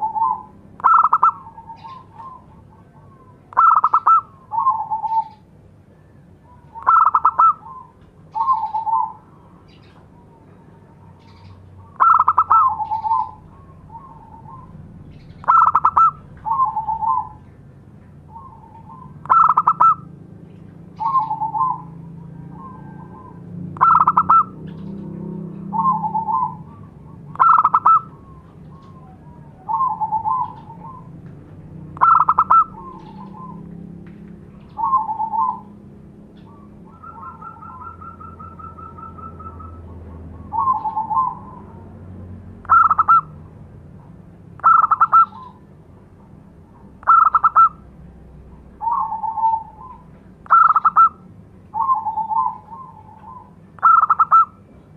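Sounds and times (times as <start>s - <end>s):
dove cooing: 0.0s - 5.5s, 6.4s - 17.6s, 18.2s - 42.0s, 42.6s - 45.7s, 47.0s - 47.9s, 48.7s - 54.7s.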